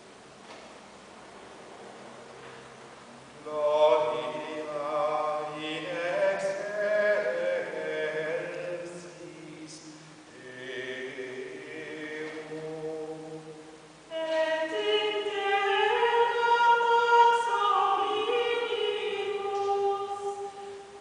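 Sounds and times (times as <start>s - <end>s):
a cappella choir chanting: 3.4s - 21.0s.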